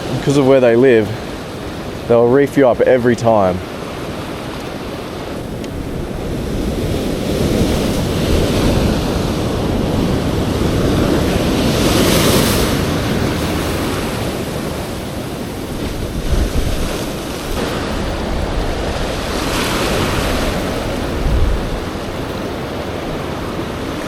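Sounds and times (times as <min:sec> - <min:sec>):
ocean swell washing over rocks: 0:00.0 - 0:24.0
wind buffeting microphone: 0:00.0 - 0:24.0.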